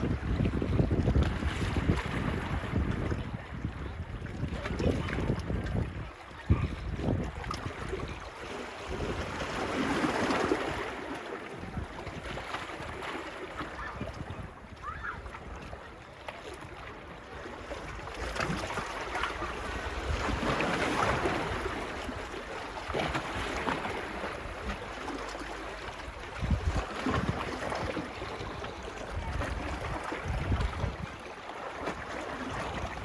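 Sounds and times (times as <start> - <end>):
wind buffeting microphone: 0.0 - 10.9, 11.5 - 13.1, 13.7 - 15.8, 17.7 - 24.9, 26.0 - 31.2, 31.8 - 33.0
small waves washing onto beach: 0.0 - 33.0.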